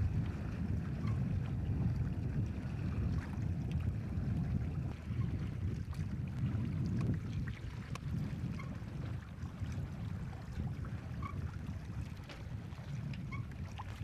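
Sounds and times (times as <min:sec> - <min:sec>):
water splashing against hulls: 0:00.0 - 0:14.0
wind buffeting microphone: 0:00.0 - 0:14.0.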